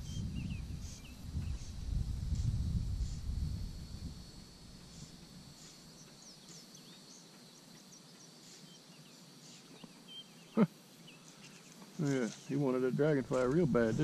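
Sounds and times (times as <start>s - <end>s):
small birds chirping: 0.0s - 3.4s, 4.8s - 14.0s
high insect drone: 0.0s - 14.0s.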